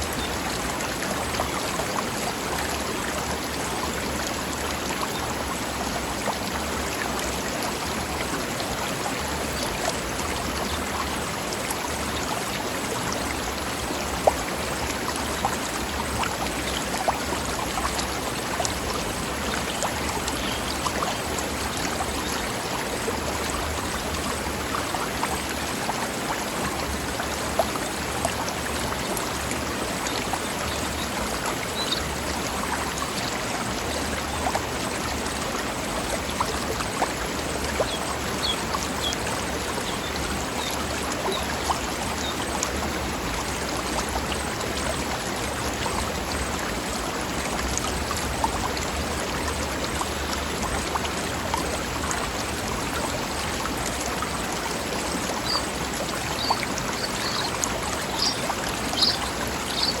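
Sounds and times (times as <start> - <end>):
river flowing over rocks: 0.0 - 60.0.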